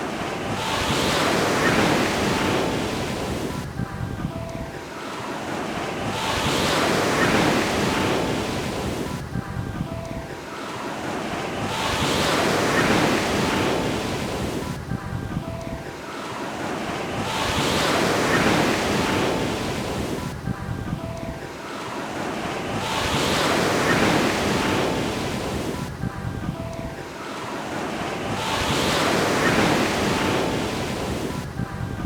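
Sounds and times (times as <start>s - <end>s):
ocean waves breaking on shore: 0.0s - 32.0s.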